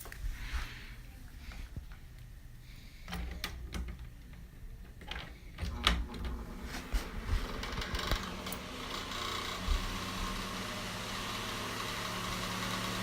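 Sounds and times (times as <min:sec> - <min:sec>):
fan whirring: 0:00.0 - 0:13.0.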